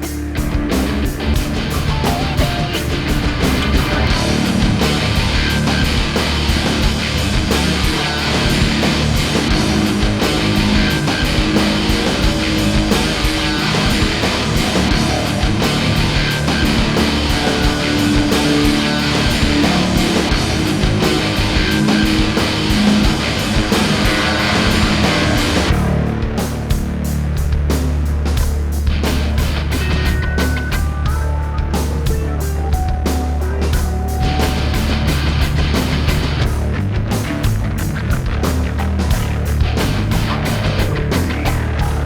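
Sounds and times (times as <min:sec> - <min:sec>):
distorted electric guitar: 0:00.0 - 0:42.0
driving drum beat: 0:00.0 - 0:42.0.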